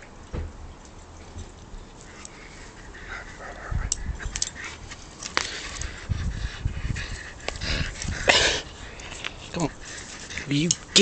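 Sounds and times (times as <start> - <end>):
dog noises: 2.0 - 11.0.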